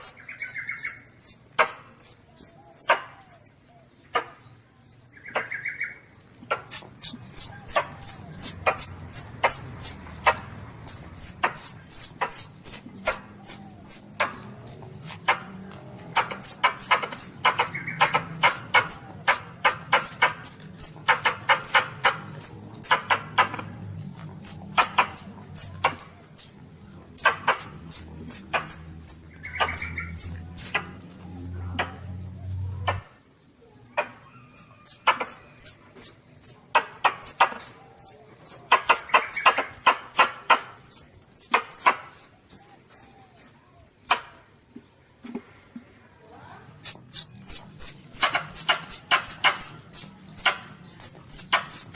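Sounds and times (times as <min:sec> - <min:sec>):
baby civet squeaking: 0:00.0 - 0:03.4, 0:06.5 - 0:31.1, 0:34.0 - 0:43.5, 0:46.8 - 0:51.9.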